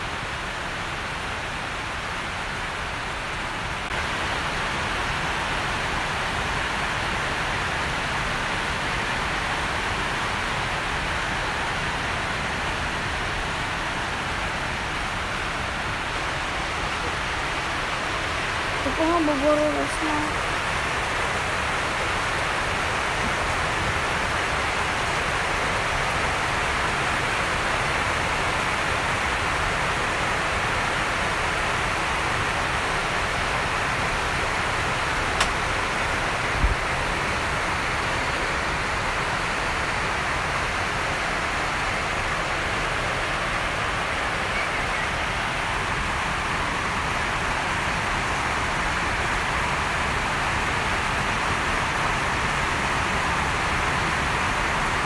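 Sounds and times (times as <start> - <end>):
steady rushing hiss: 0.0 - 55.0.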